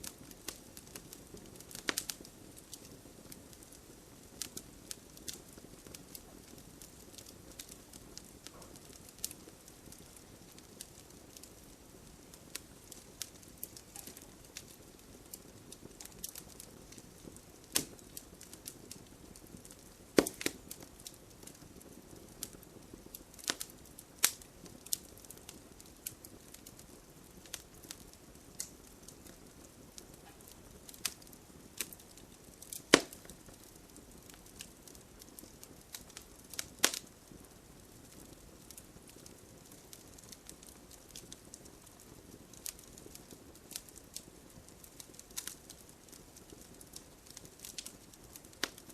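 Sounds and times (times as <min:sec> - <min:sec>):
soft steady fire hiss: 0:00.0 - 0:48.9
wood fire crackling and popping: 0:00.0 - 0:48.9.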